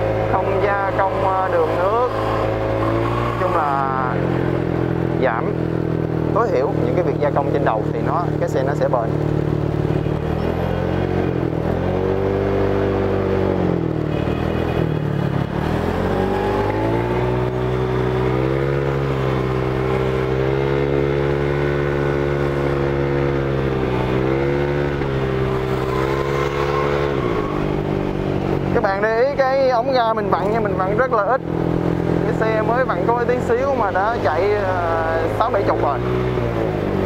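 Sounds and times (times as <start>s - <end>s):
scooter engine accelerating: 0.0s - 37.0s.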